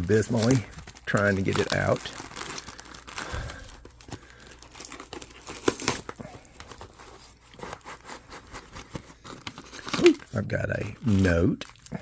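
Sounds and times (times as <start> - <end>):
packing material rustling: 0.0 - 12.0.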